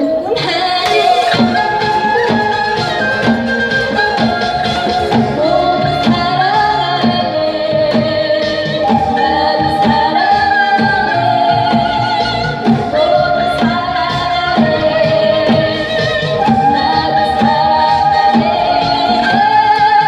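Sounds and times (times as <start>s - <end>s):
transverse flute: 0.0s - 20.0s
woman singing: 0.0s - 20.0s
steady beat: 0.8s - 20.0s.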